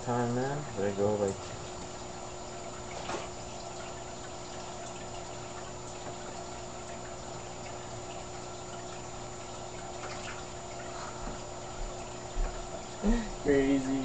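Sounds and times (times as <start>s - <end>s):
aquarium filter bubbling: 0.0s - 14.0s
low steady hum: 0.0s - 14.0s.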